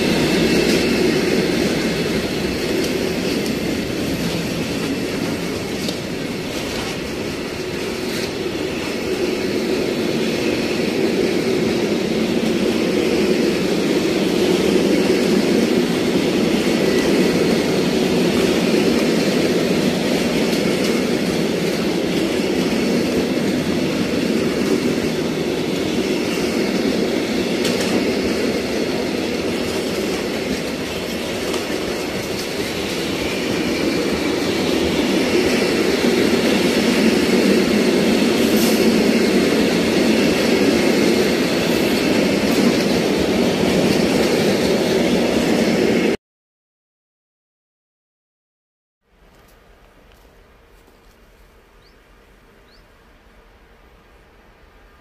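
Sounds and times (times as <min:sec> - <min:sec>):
train wheels rumbling on track: 0:00.0 - 0:46.2.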